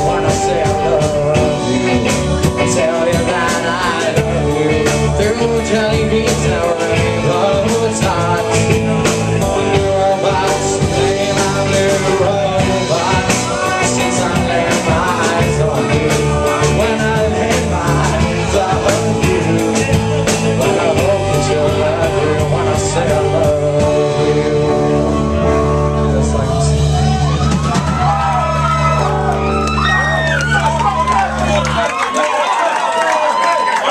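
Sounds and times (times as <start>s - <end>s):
live rock band playing: 0.0s - 32.1s.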